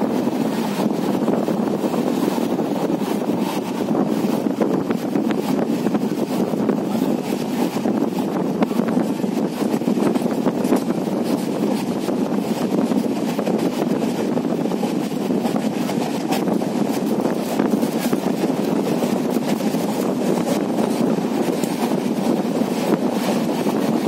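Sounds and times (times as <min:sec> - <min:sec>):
rushing air: 0:00.0 - 0:24.0
train wheels rumbling on rail: 0:00.0 - 0:24.0.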